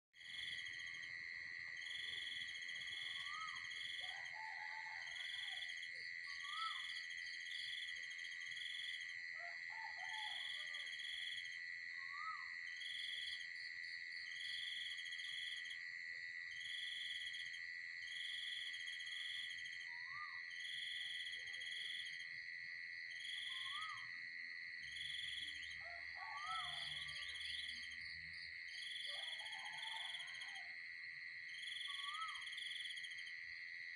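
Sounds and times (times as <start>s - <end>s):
crickets and cicadas droning: 0.2s - 33.9s.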